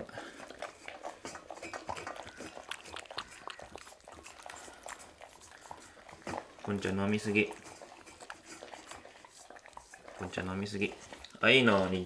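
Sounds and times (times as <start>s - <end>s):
cats lapping milk: 0.0s - 12.0s.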